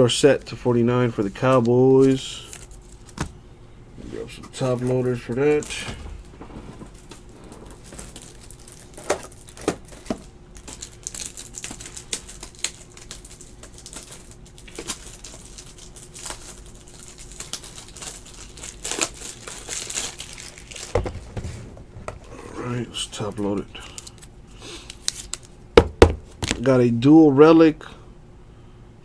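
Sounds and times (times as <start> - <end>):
plastic crinkling: 0.3 - 3.4, 4.3 - 25.6.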